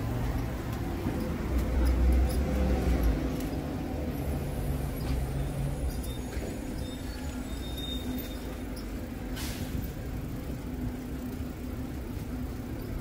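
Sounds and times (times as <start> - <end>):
bus engine running: 0.0 - 13.0
street traffic noise: 0.0 - 13.0.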